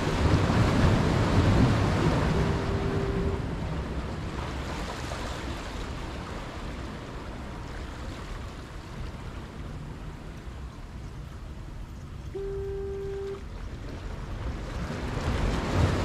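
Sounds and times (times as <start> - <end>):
sea surf washing against rocks: 0.0 - 10.5, 13.4 - 16.0.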